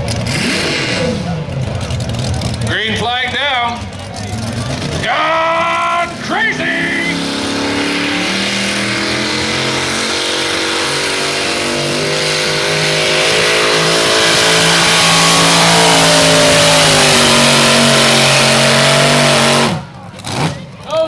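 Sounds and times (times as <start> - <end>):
truck engine running flat out: 0.0 - 20.9.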